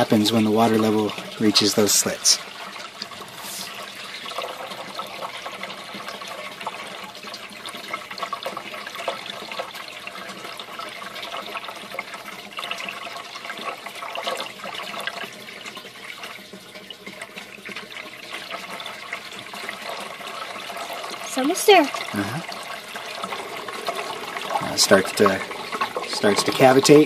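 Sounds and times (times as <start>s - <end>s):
water gurgling: 0.0s - 27.0s
water rushing: 0.0s - 27.0s.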